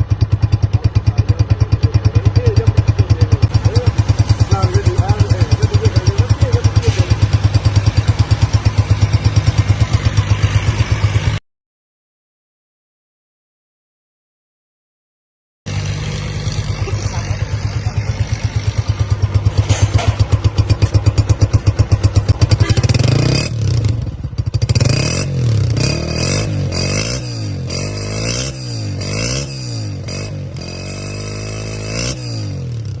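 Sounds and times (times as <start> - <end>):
motorcycle engine idling and revving: 0.0 - 11.4, 15.7 - 33.0.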